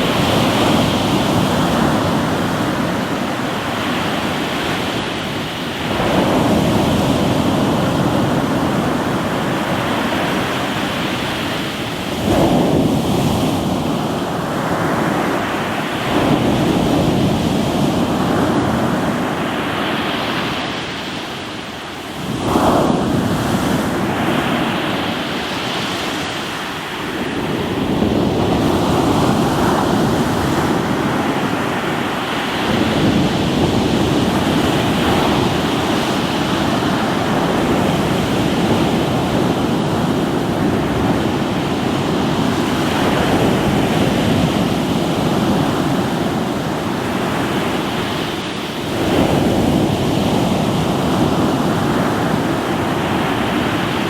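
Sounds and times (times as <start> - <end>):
waves breaking on rocky shore: 0.0 - 54.0.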